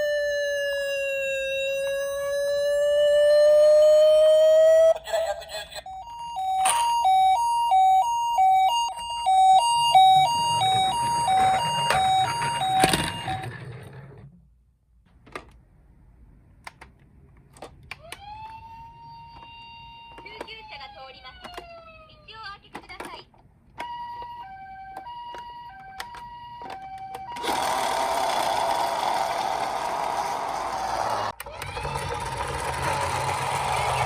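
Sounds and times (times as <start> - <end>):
ambulance siren: 0.0 - 14.0, 18.0 - 22.3, 23.8 - 34.0.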